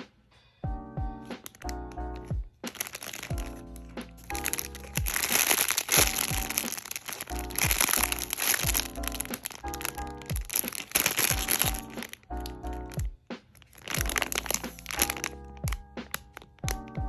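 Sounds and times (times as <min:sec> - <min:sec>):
background music with steady beat: 0:00.0 - 0:17.0
plastic packaging crinkling: 0:01.4 - 0:17.0.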